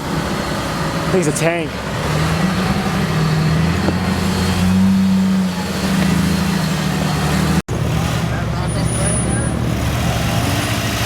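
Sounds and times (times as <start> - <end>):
vehicle engine running and revving: 0.0 - 11.0.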